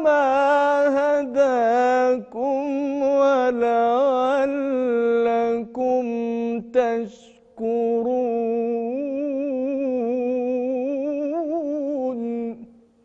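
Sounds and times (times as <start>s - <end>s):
man chanting melodic recitation: 0.0s - 12.7s.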